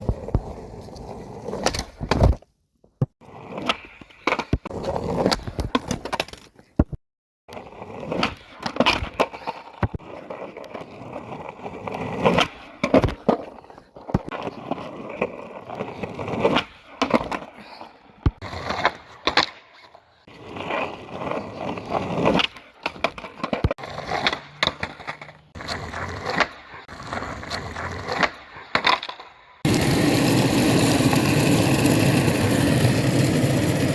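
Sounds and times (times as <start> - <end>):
skateboard clacking and landing: 0.0 - 2.4, 3.0 - 7.0, 7.6 - 19.8, 20.4 - 33.9
skateboard wheels rolling: 0.0 - 2.5, 3.2 - 33.9.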